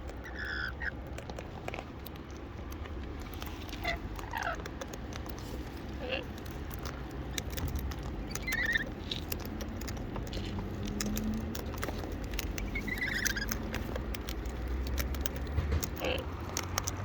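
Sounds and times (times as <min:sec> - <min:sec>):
parrots pecking and scrabbling: 0:00.0 - 0:17.0.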